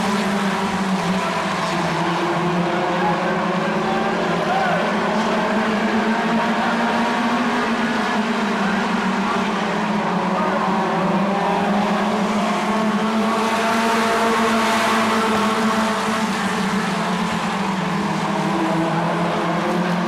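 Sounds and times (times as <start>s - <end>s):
racing car engines droning: 0.0s - 20.0s.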